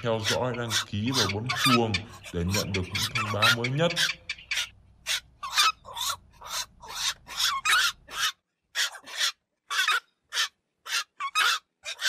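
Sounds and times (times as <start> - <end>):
herons squawking harshly: 0.0 - 12.0.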